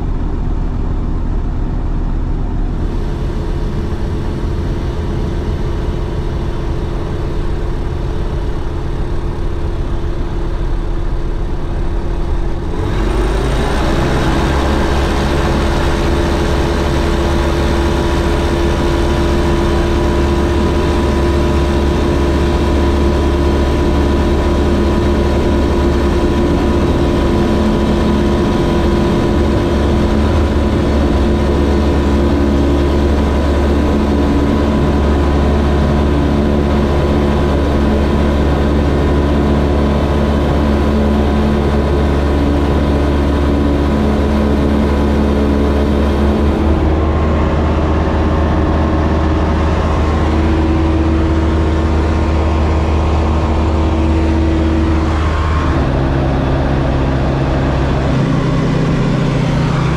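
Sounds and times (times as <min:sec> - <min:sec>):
aircraft piston engine and propeller: 0:00.0 - 0:59.9.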